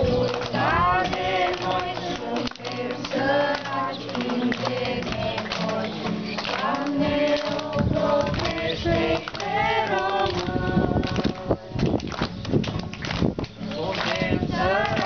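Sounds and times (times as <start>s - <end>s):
children singing in unison: 0.0s - 5.8s, 6.5s - 11.7s, 13.7s - 15.0s
strummed guitars: 0.0s - 15.0s.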